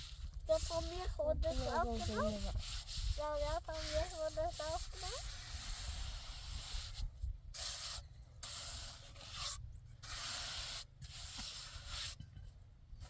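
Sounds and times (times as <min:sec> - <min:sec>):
hand rubbing a hard surface: 0:00.0 - 0:13.0.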